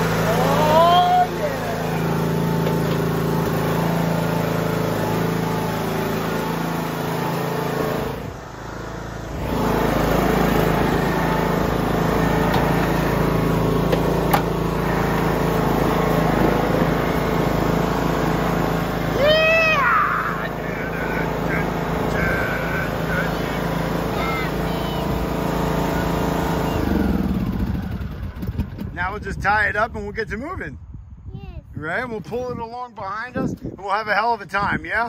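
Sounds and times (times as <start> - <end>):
riding lawn mower engine: 0.0 - 29.7.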